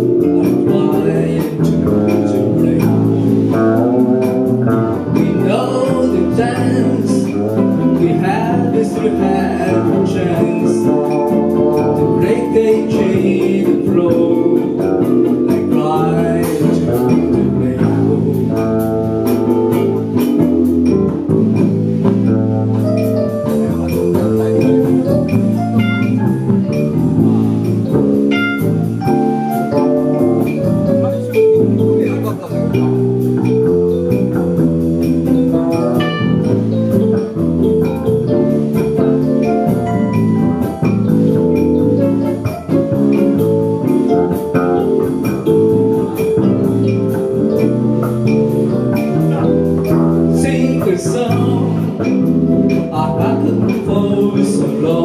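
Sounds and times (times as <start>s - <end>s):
saxophone melody: 0.0s - 50.7s
electric bass: 0.0s - 55.0s
electric guitar: 0.0s - 55.0s.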